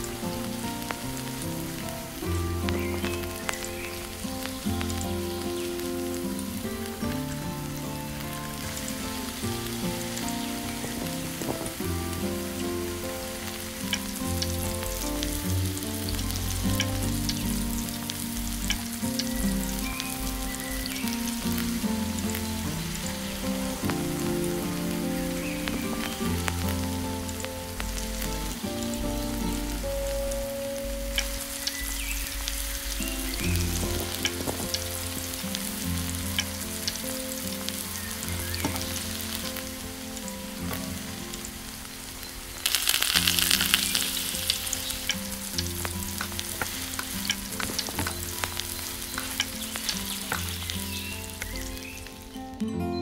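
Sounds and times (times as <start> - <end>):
bread sizzling on griddle: 0.0 - 52.2
background music with held notes: 0.0 - 53.0.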